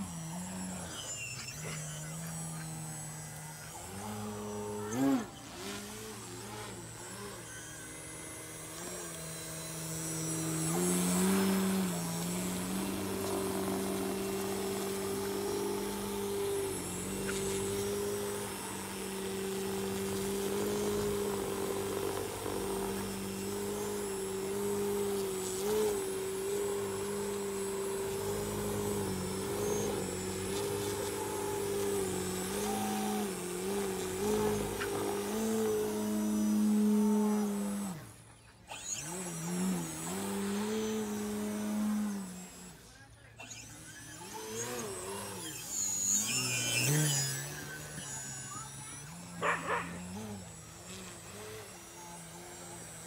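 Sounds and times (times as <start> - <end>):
model plane propeller droning: 0.0 - 53.0.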